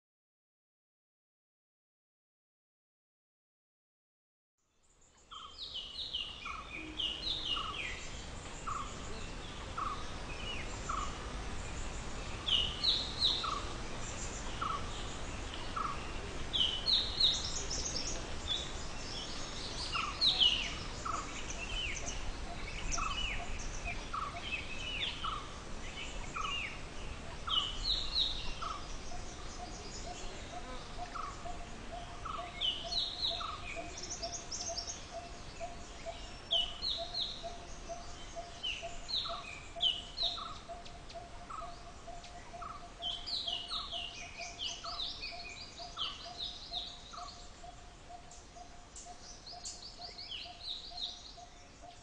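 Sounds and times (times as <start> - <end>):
steady background hiss: 4.7 - 52.0
birds chirping: 4.8 - 52.0
low repeated bird call: 5.2 - 52.0.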